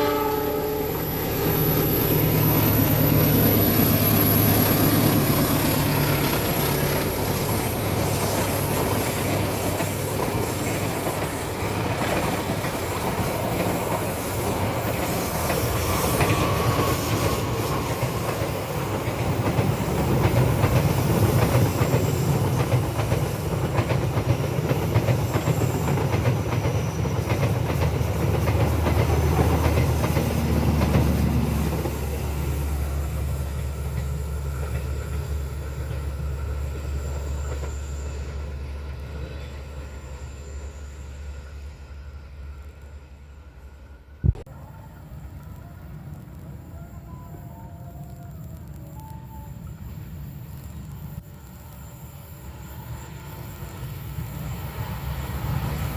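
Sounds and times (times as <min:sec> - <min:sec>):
train passing at speed: 0:00.0 - 0:55.9.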